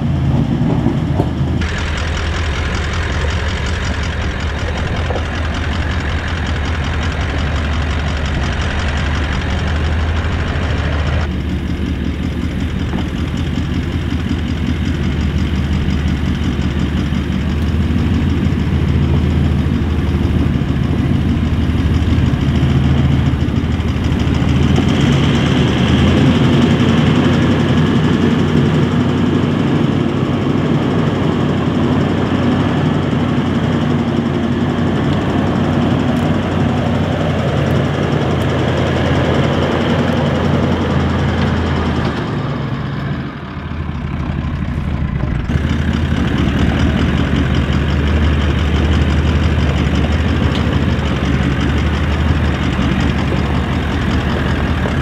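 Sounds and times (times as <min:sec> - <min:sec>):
engine running at low revs: 0:00.0 - 0:55.0.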